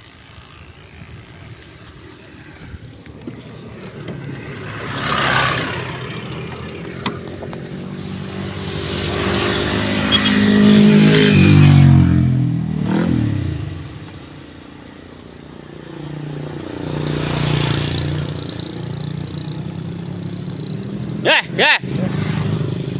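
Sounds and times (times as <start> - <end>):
motor vehicles passing by: 0.0 - 22.9.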